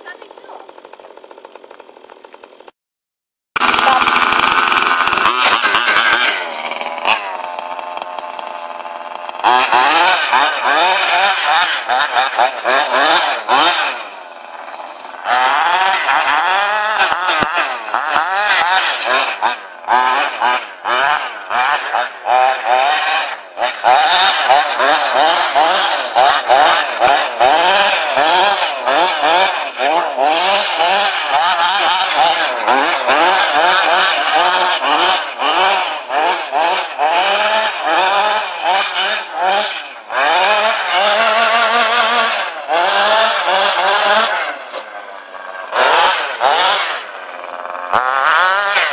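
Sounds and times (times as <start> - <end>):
rc car engine revving: 3.6 - 48.9.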